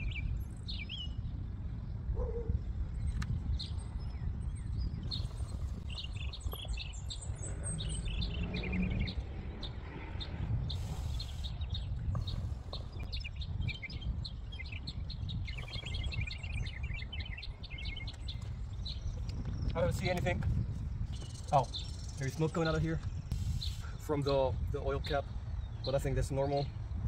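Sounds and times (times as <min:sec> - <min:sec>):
small birds chirping: 0:00.0 - 0:27.0
steady low rumble: 0:00.0 - 0:27.0.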